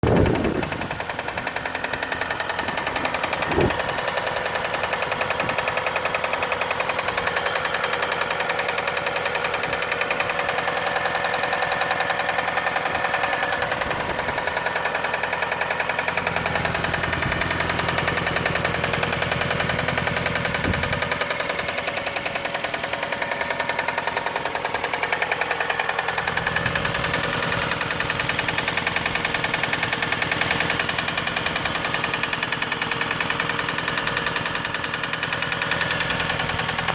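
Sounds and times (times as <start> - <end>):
car engine knocking: 0.0 - 36.9.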